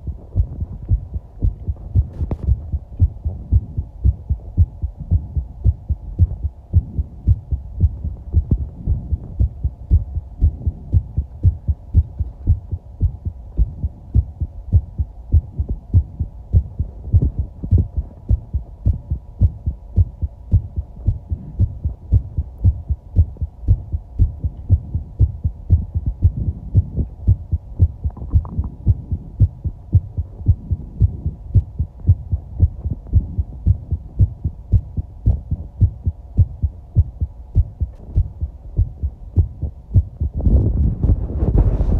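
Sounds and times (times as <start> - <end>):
heartbeat: 0.0 - 41.9.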